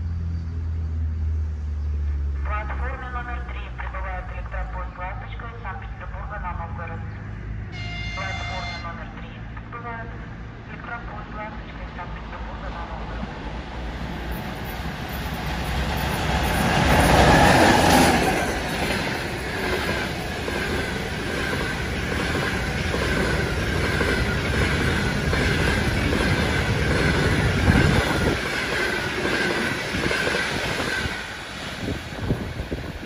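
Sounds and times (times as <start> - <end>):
electric locomotive passing: 0.0 - 3.6, 5.2 - 33.0
train coaches rumbling: 0.0 - 33.0.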